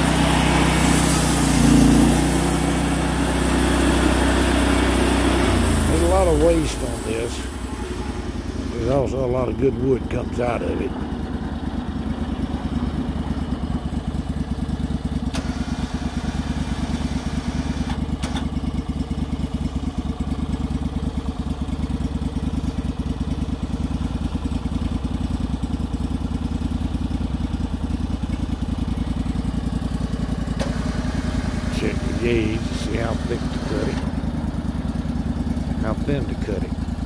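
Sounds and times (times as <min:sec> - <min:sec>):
gasoline engine running: 0:00.0 - 0:37.0.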